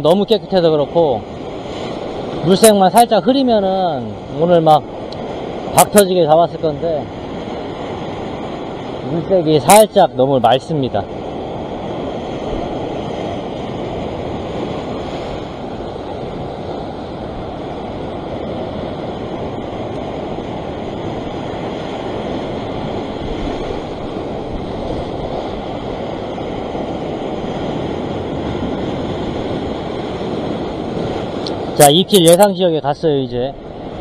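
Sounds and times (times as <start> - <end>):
surf breaking over rocks: 0.0 - 34.0
wind buffeting microphone: 0.0 - 34.0.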